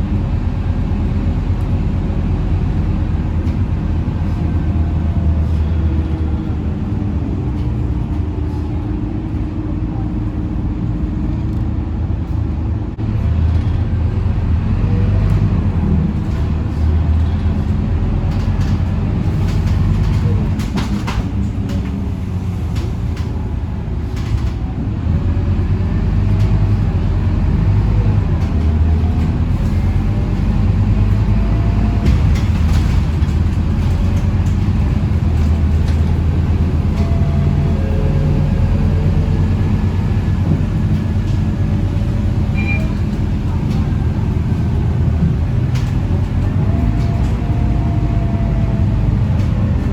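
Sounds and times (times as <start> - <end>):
bus diesel engine: 0.0 - 49.9.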